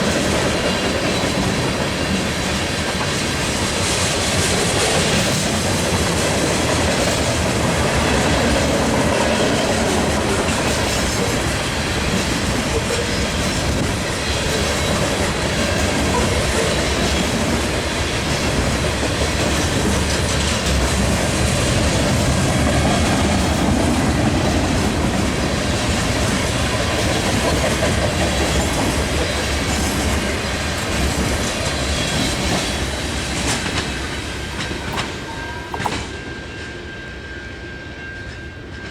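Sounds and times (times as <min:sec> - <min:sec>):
wheels clacking over rail joints: 0:00.0 - 0:36.2
rumble of wheels on rail: 0:00.0 - 0:38.9.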